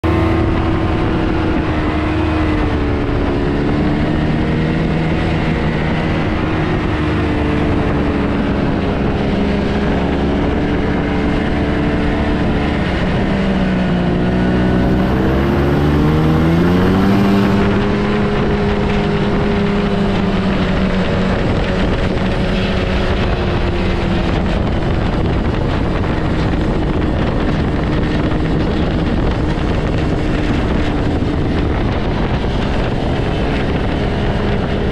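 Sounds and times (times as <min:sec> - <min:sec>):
snowmobile engine running: 0:00.0 - 0:34.9.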